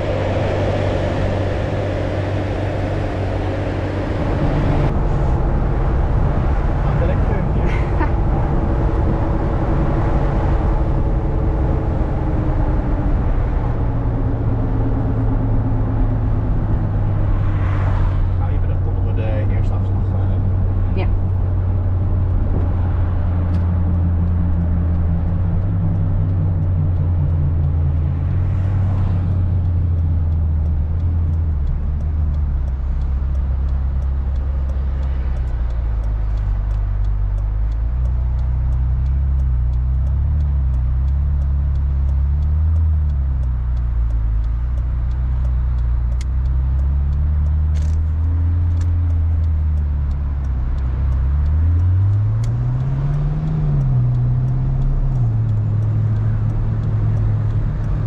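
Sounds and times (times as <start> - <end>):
car engine at low revs: 0.0 - 58.0.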